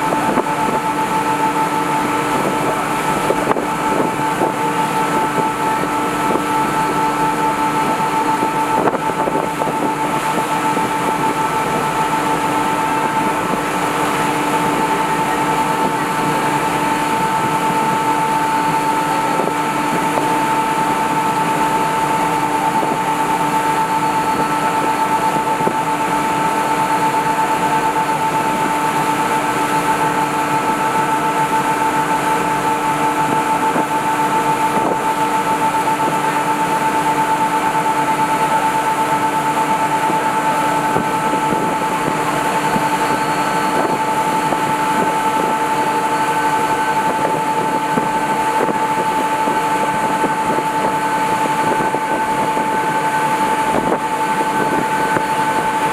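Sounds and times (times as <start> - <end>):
gas turbines whining: 0.0 - 55.9
wind and water rushing: 0.0 - 55.9.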